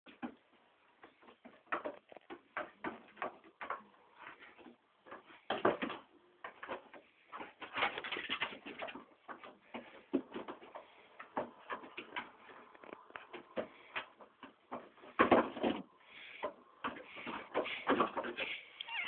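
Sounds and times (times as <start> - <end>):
animals scuffling: 0.1 - 19.0
hooves and claws tapping and scraping: 0.1 - 19.0.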